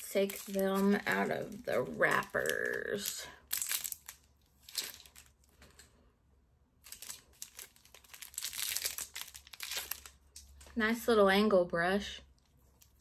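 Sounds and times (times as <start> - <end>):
plastic wrappers crinkling: 0.0 - 5.9, 6.8 - 10.8, 12.4 - 13.0.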